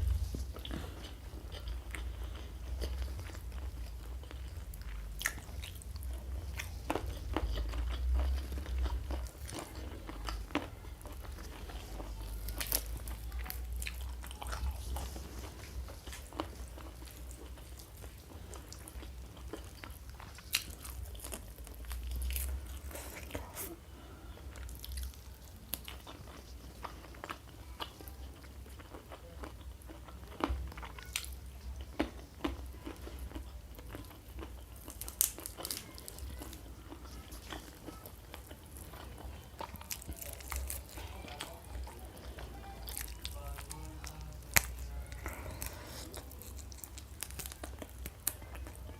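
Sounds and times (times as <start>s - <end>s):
chewing: 0.0s - 48.9s.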